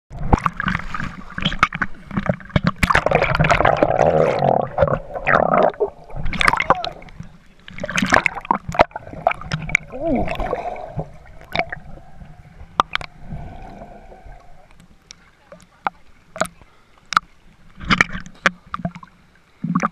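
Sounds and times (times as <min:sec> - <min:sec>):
underwater splashing and bubbling: 0:00.1 - 0:19.9.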